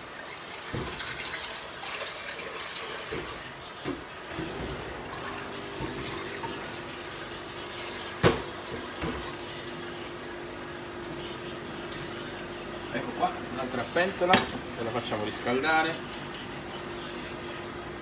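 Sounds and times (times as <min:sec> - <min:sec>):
water running from a tap: 0:00.0 - 0:16.4.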